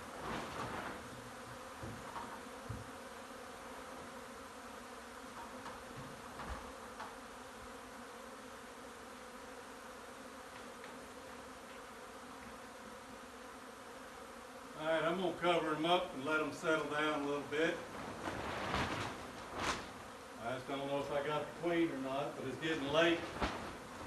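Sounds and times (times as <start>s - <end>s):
bee swarm buzzing: 0.0s - 24.0s.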